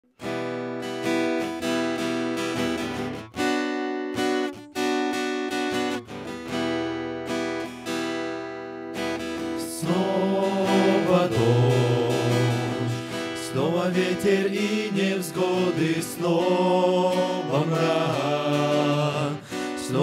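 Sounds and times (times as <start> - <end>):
acoustic guitar strumming chords: 0.1 - 20.0.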